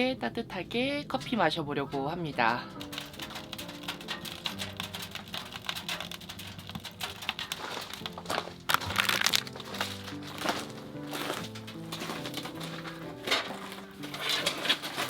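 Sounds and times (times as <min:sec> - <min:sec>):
soft background music: 0:00.0 - 0:15.0
packaging crinkling and rustling: 0:02.6 - 0:15.0.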